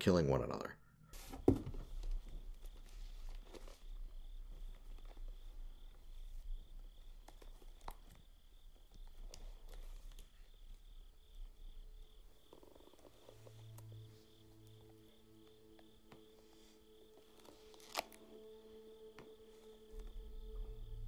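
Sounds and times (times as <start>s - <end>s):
crickets chirping: 0.9s - 21.0s.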